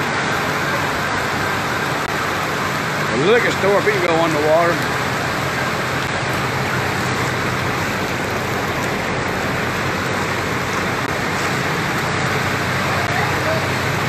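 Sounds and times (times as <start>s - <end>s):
low engine hum: 0.0s - 14.0s
water rushing around vehicle: 0.0s - 14.0s.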